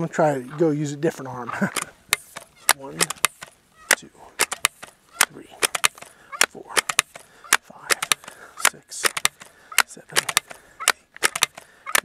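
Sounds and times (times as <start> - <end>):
air rifle pump clicking: 1.7 - 12.0.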